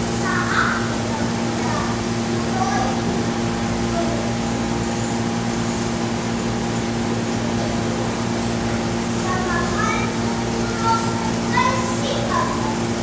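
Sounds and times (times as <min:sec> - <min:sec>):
hall hum and hiss: 0:00.0 - 0:13.0.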